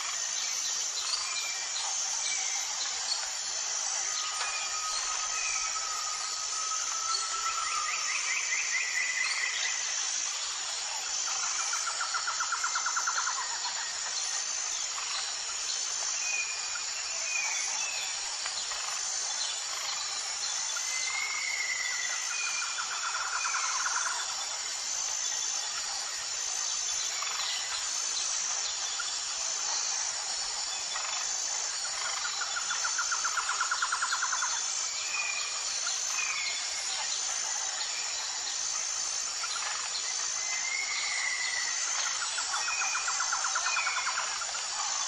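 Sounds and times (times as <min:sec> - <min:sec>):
high-pitched insect drone: 0:00.0 - 0:45.0.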